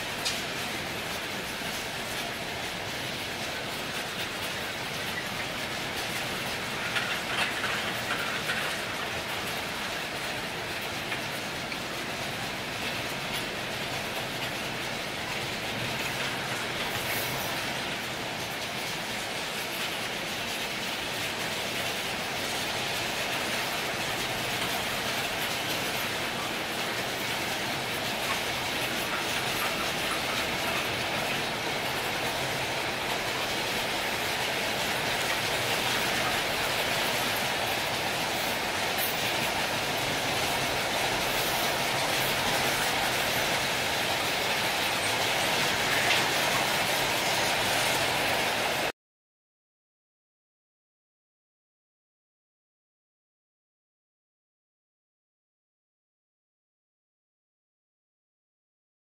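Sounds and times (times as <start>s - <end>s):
train wheels rolling on rails: 0.0s - 48.9s.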